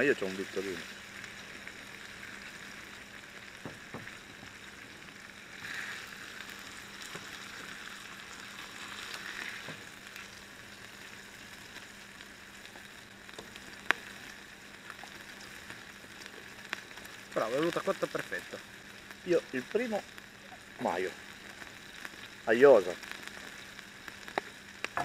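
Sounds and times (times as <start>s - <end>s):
sausage sizzling on a griddle: 0.0s - 25.0s.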